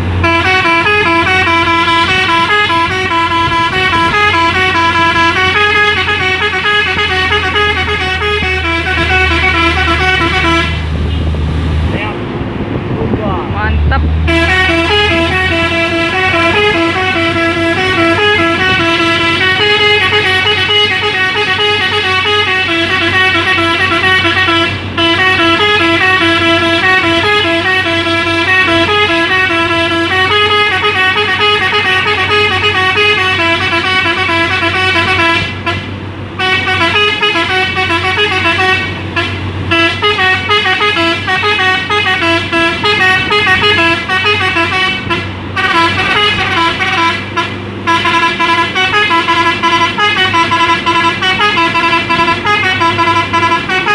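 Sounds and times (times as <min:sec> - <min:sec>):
multi-tone truck horn melody: 0:00.0 - 0:12.2, 0:14.2 - 0:53.9
truck engine hum: 0:00.0 - 0:53.9.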